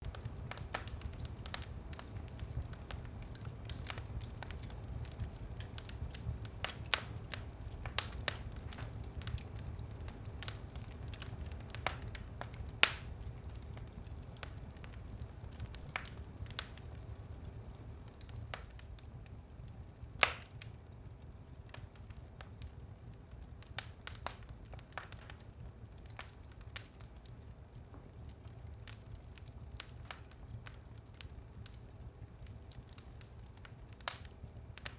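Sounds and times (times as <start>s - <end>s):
loud fire pops: 0.0s - 27.1s, 32.8s - 34.9s
low fire rumble: 0.0s - 34.9s
wood fire crackling: 0.0s - 34.9s.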